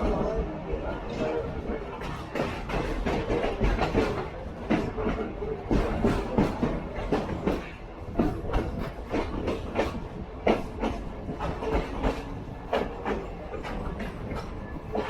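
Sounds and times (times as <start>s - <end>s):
railroad car rumbling on track: 0.0s - 15.0s
wheels clicking on rails: 1.2s - 15.0s.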